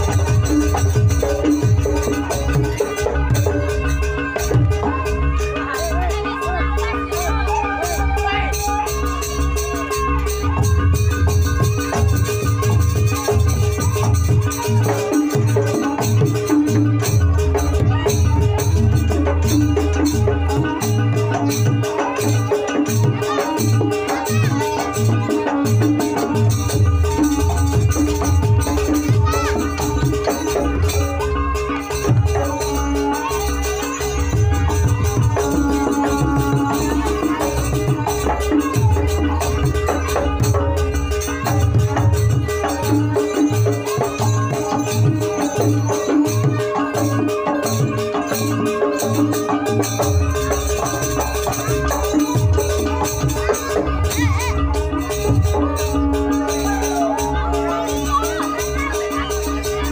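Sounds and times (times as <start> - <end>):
high wavering melody: 0.0 - 59.9
rattling percussion: 0.0 - 59.9.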